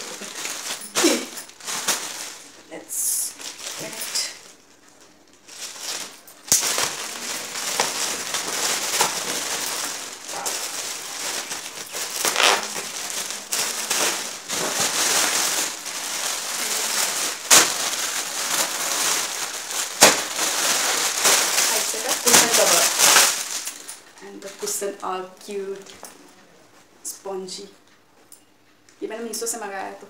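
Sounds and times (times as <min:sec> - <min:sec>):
plastic packaging crinkling: 0:00.0 - 0:26.1.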